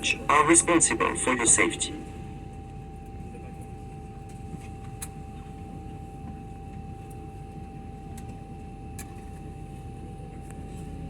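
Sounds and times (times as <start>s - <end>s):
airliner cabin rumble: 0.0s - 11.0s
steady humming tones: 0.0s - 11.0s.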